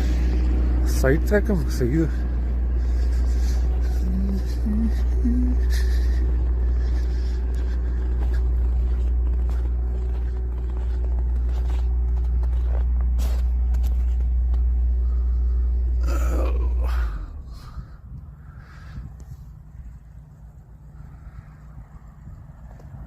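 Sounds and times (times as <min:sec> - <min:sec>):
vehicle rumble heard from inside: 0:00.0 - 0:23.0.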